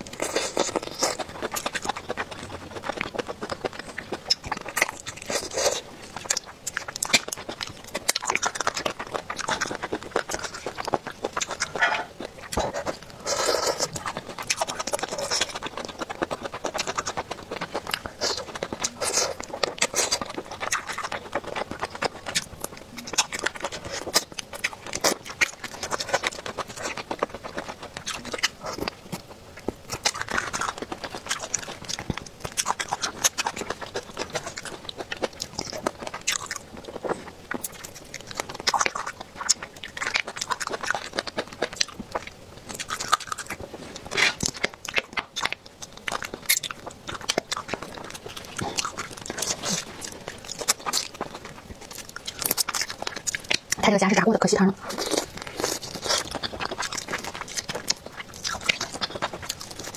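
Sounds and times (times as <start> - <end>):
crunching and chewing crispy food: 0.0 - 59.9.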